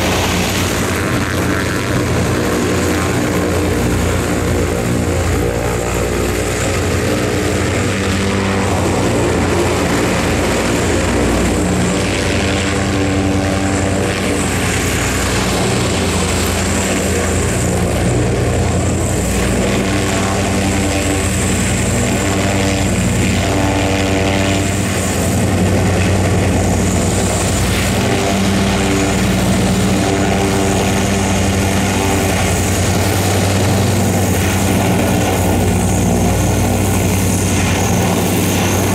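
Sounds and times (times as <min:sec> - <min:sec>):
airship engines and propellers running: 0:00.0 - 0:38.9.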